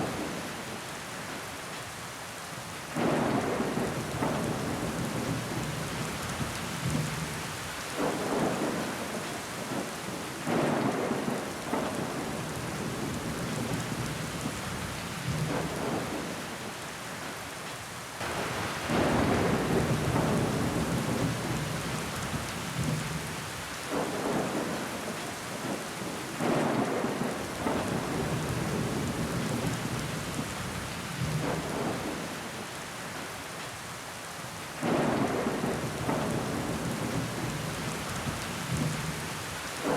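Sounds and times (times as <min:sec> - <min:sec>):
rain on window glass: 0:02.8 - 0:39.9.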